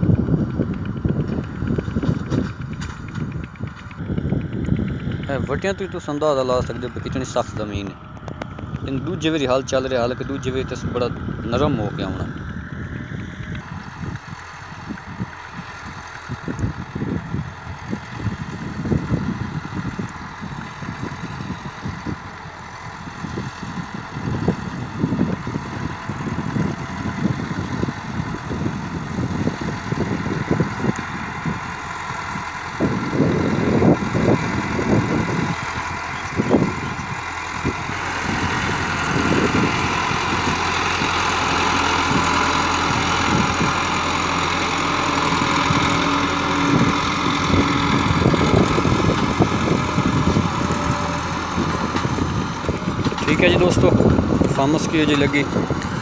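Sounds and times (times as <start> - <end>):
gusty low rumbling: 0.0 - 56.0
tractor diesel engine labouring: 0.0 - 56.0.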